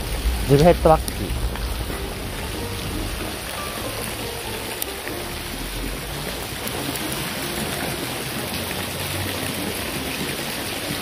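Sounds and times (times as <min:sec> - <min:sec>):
rushing water and rain: 0:00.0 - 0:11.0.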